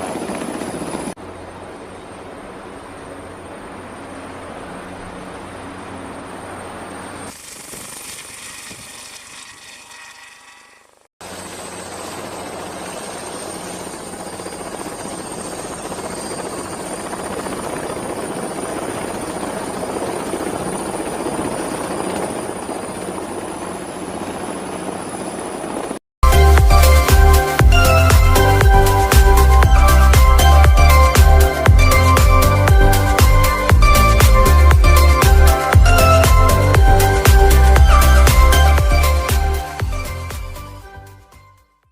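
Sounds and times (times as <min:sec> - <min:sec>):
helicopter rush: 0:00.0 - 0:09.1, 0:10.9 - 0:40.7
high turbine whine: 0:00.0 - 0:40.7.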